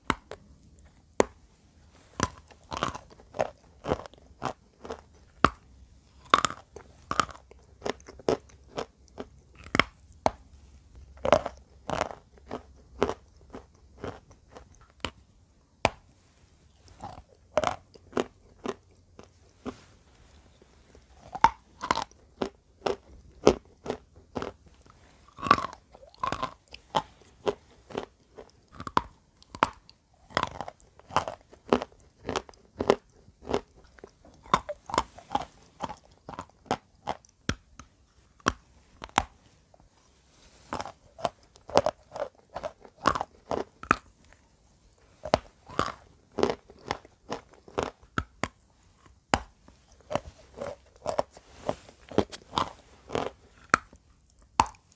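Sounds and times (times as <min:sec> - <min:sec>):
chewing and crunching chalk: 0:02.0 - 0:15.3, 0:16.7 - 0:54.9.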